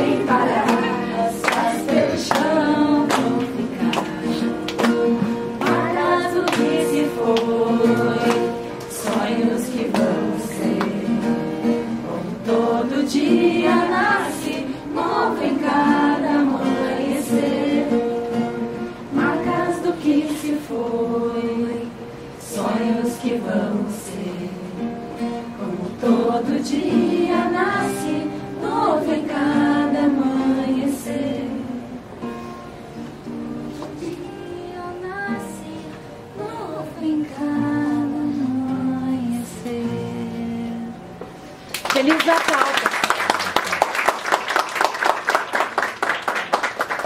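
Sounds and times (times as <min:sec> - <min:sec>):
group singing with instruments: 0:00.0 - 0:32.6, 0:33.7 - 0:41.5.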